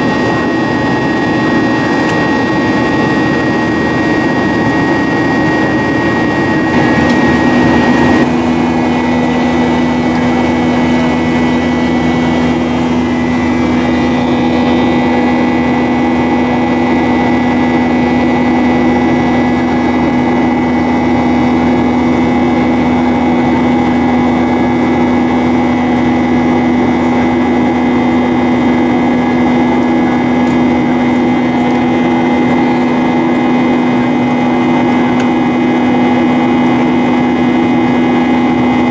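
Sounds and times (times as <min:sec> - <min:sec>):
jet engine drone in flight: 0:00.0 - 0:38.9.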